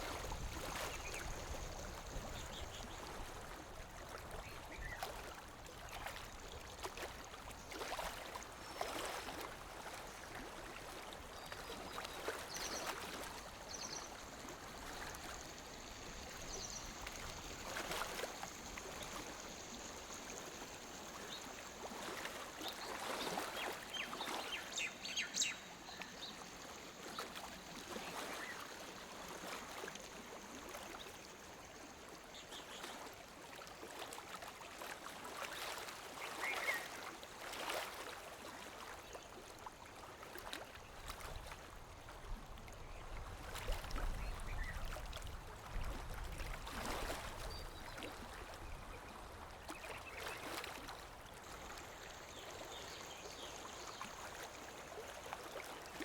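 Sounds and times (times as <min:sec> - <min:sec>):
small waves lapping at shore: 0:00.0 - 0:56.0.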